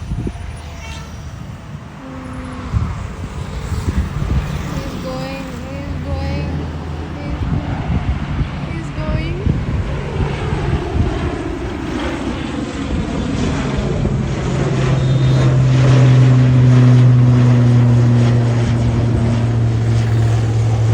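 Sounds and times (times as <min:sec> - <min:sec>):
airliner engines roaring: 0:00.0 - 0:20.9
steady low hum: 0:00.0 - 0:20.9.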